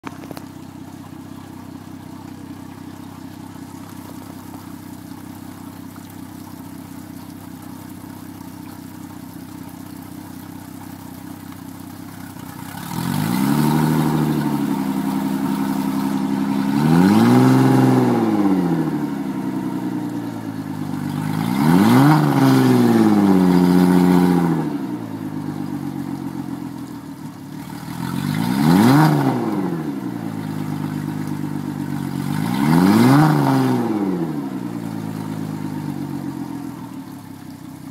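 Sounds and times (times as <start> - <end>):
outboard motor idling and revving: 0.0 - 37.9.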